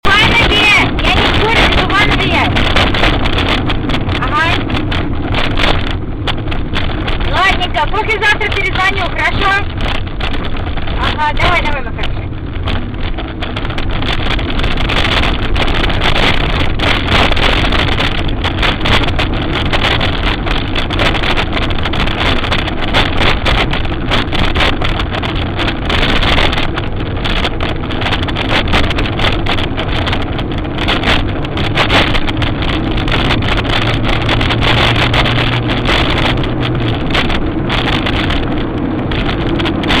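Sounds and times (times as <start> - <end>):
vehicle engine and road noise: 0.0 - 40.0
wind gusting on microphone: 0.0 - 40.0.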